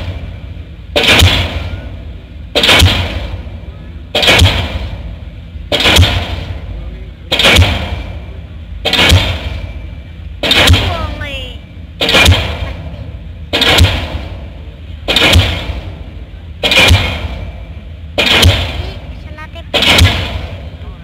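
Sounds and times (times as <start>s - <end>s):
pile hammer booming blows: 0.0s - 21.0s.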